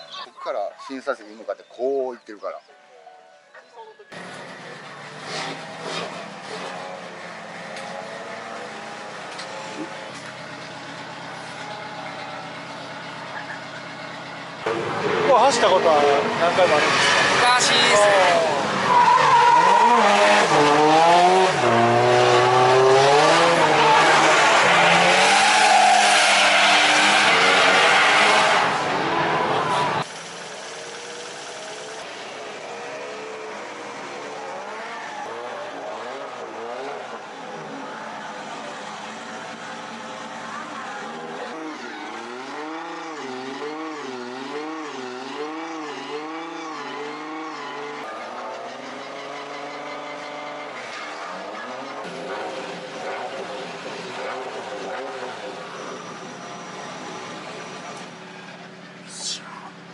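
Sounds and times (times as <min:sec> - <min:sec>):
car engine revving: 0:04.1 - 0:59.9
tires squealing: 0:04.1 - 0:59.9.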